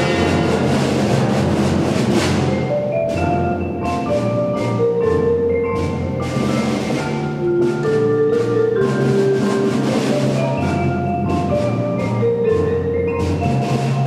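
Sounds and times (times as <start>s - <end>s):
marimba struck with mallets: 0.0s - 14.0s
percussion ensemble playing: 0.0s - 14.0s.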